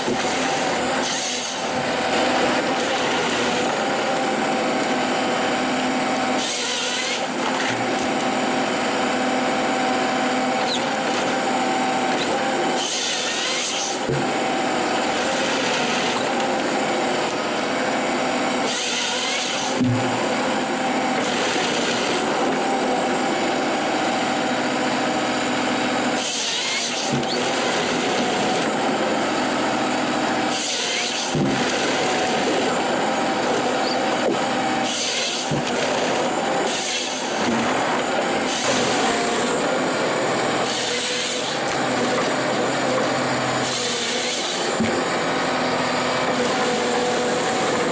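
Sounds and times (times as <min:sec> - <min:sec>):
chainsaw cutting trunk: 0:00.0 - 0:47.9
harvester engine and hydraulics humming: 0:00.0 - 0:47.9.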